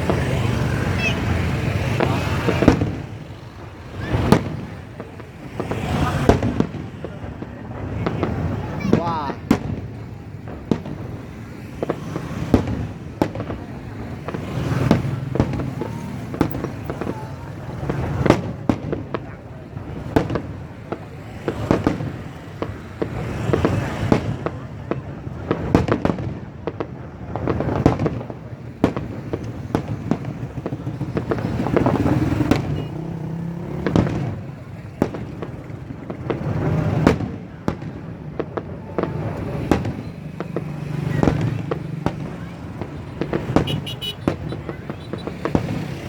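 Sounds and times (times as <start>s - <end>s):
fireworks background rumble: 0.0s - 46.0s
fireworks bursting with sharp bangs: 0.0s - 46.0s.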